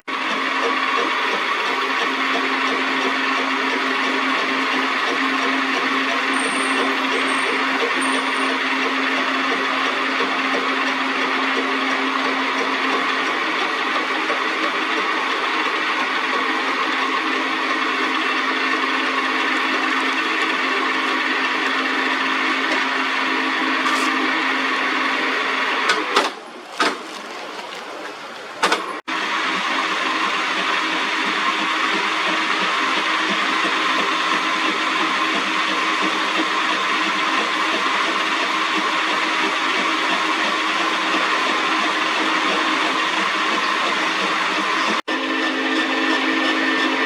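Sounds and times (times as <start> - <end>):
metal lathe running: 0.1 - 27.2, 28.3 - 47.0.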